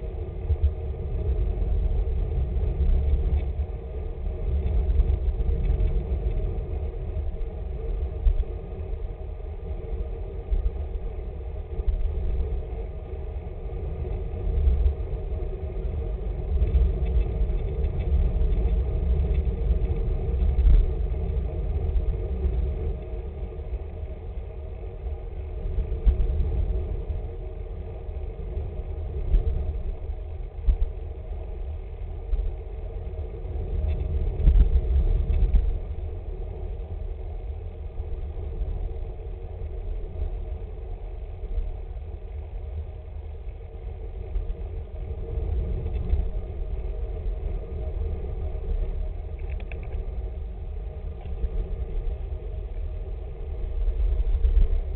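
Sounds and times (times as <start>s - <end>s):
bicycle road noise: 0.0s - 54.9s
faint steady hum: 0.0s - 54.9s
wind rumble on microphone: 0.0s - 54.9s.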